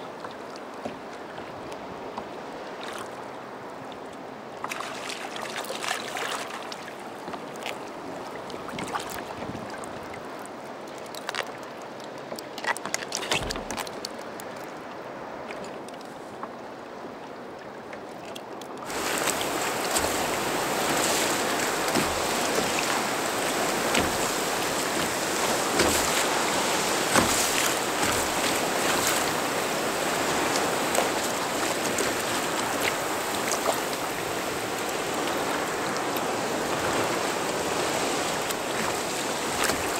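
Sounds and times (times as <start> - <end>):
water lapping against kayak hull: 0.0 - 39.9
water rushing and splashing: 0.0 - 39.9.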